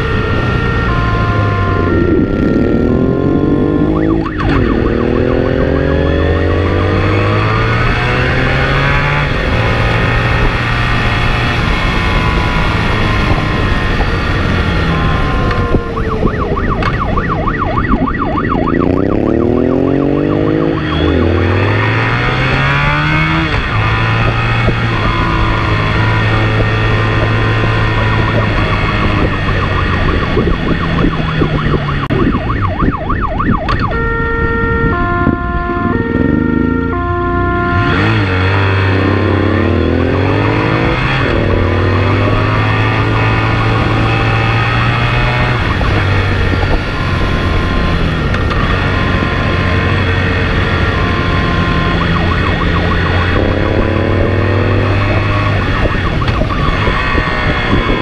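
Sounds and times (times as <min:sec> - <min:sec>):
motorcycle engine accelerating: 0:00.0 - 0:58.0
road noise: 0:00.0 - 0:58.0
wind noise: 0:00.0 - 0:58.0.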